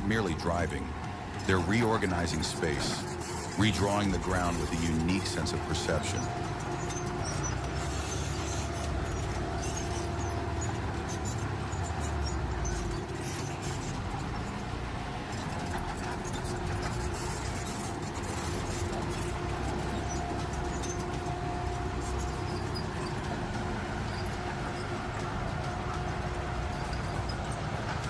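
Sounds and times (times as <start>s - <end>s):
heavy machine engine droning: 0.0s - 28.0s.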